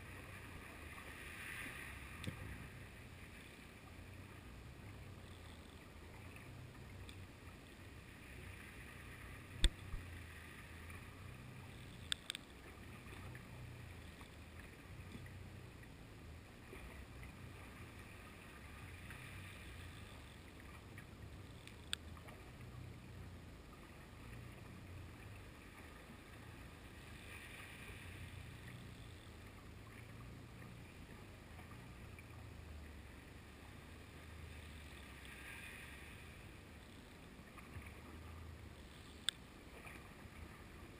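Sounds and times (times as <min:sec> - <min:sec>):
muffled underwater water rumble: 0:00.0 - 0:40.9.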